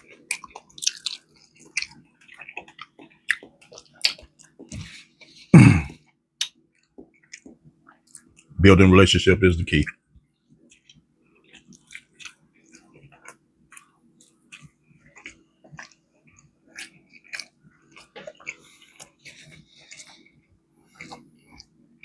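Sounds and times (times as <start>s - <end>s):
person chewing: 0.0s - 8.8s, 10.6s - 21.8s.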